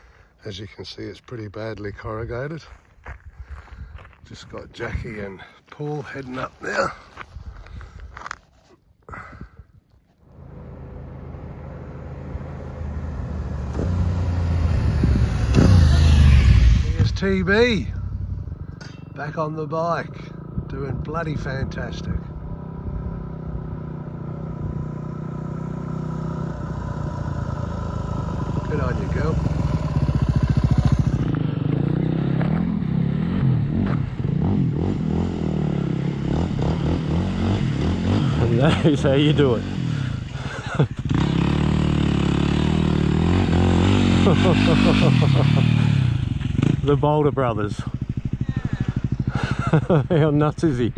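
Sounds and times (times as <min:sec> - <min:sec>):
motorcycle approaching on dirt road: 0:01.9 - 0:50.9.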